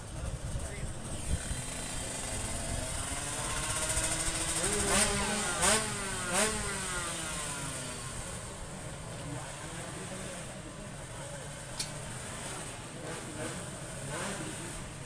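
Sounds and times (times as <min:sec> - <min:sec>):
two-stroke motorbike accelerating: 0:00.0 - 0:15.0.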